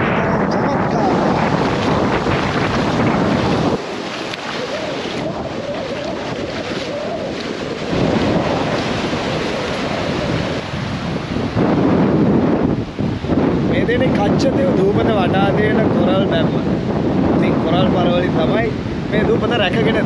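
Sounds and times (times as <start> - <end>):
small waves washing on shore: 0.0 - 20.0
wind buffeting microphone: 0.0 - 20.0.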